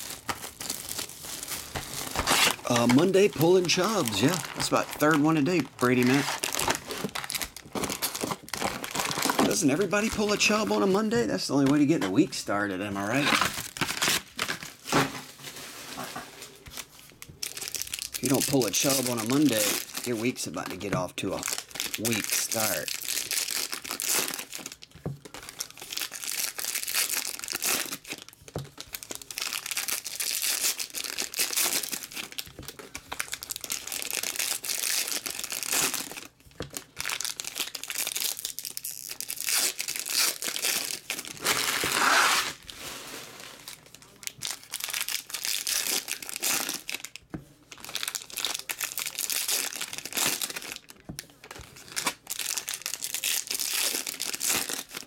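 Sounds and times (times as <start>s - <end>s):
foil wrappers crinkling and tearing: 0.0s - 55.0s.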